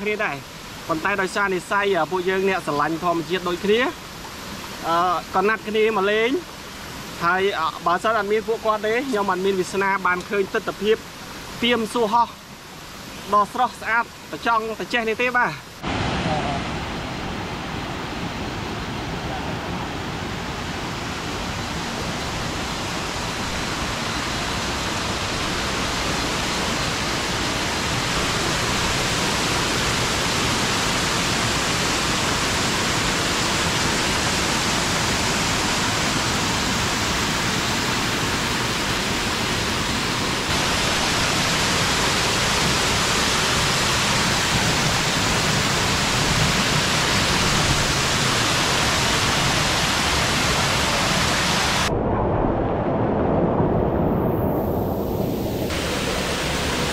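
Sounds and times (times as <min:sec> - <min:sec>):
waterfall rushing: 0:00.0 - 0:51.9, 0:54.2 - 0:56.9.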